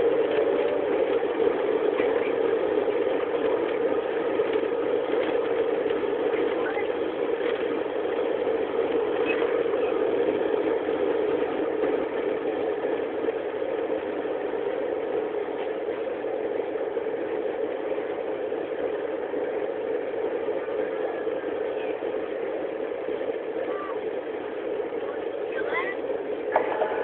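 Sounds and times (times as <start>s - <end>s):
jet engines roaring in cabin: 0.0s - 27.0s.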